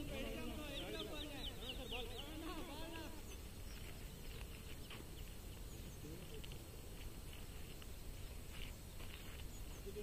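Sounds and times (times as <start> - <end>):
faint bird chirps: 0.1 - 6.6, 7.3 - 10.0.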